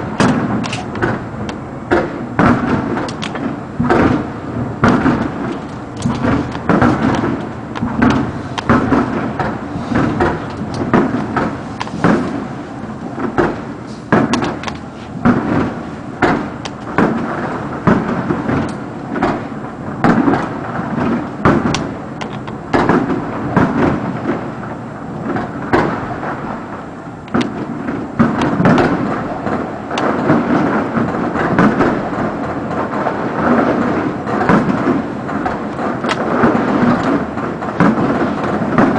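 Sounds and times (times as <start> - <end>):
continuous rumble: 0.0 - 38.9
firework shells bursting: 0.0 - 38.9.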